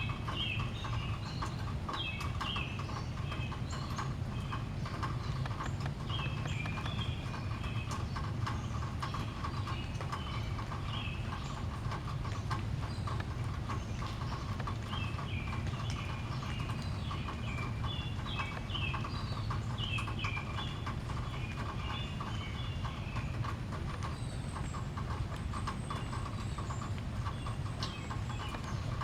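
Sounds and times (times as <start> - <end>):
birds chirping and singing: 0.0 - 23.5, 24.1 - 29.0.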